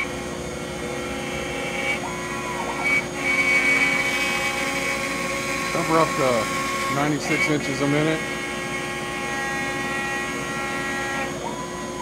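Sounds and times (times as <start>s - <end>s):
router whining cutting wood: 0.0s - 12.0s.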